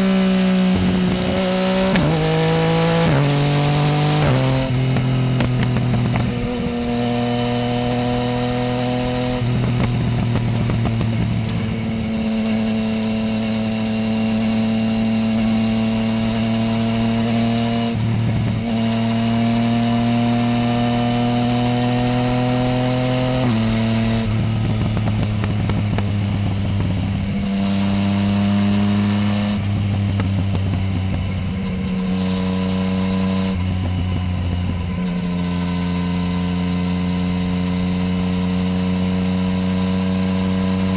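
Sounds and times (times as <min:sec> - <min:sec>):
motorcycle engine on the move: 0:00.0 - 0:40.9.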